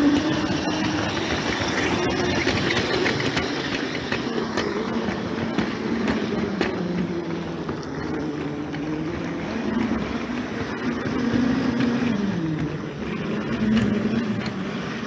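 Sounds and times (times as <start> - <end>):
train rumbling on track: 0.0 - 15.0
wheels clicking over track: 0.0 - 15.0.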